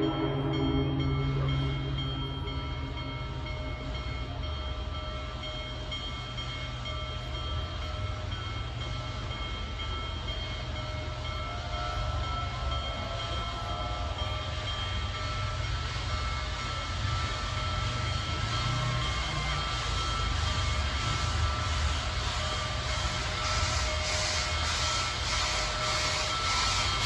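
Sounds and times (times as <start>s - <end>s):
steam locomotive rumble: 0.0s - 27.0s.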